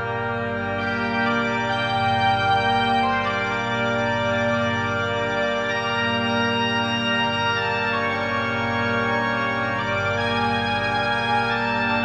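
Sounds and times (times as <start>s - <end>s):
organ chords: 0.0s - 12.0s.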